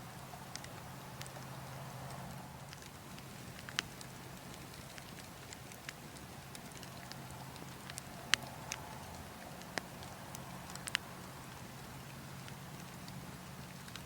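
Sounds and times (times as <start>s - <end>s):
burning logs crackling: 0.0s - 14.0s
low rumble of wind: 0.0s - 14.0s.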